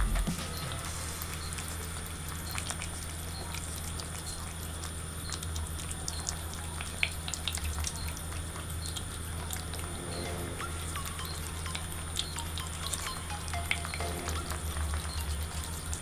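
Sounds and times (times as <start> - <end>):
cats chewing wet food: 0.0 - 16.0
low steady hum: 0.0 - 16.0.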